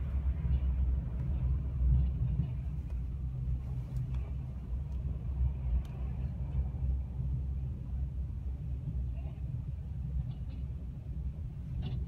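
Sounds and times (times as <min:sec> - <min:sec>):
low road noise rumble: 0:00.0 - 0:12.0.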